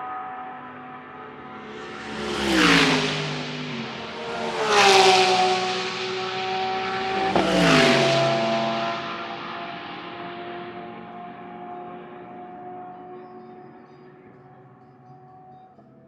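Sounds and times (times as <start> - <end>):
race cars passing at speed: 0.0 - 15.5.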